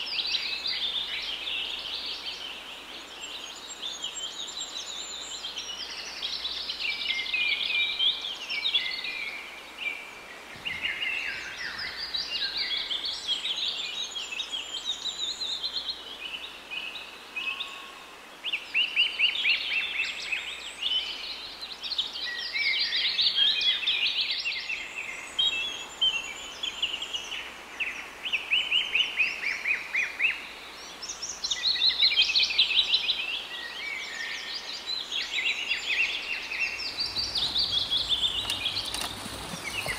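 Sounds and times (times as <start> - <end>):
faint outdoor hiss: 0.0 - 39.9
small birds chirping and trilling: 0.0 - 39.9.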